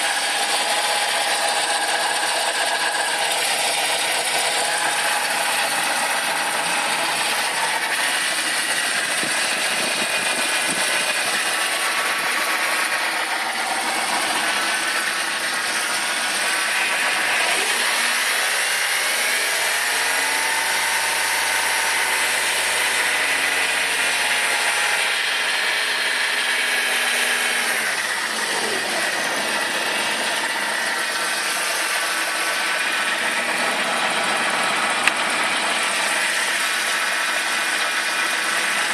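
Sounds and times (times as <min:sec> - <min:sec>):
car engine rattling and revving: 0:00.0 - 0:38.9.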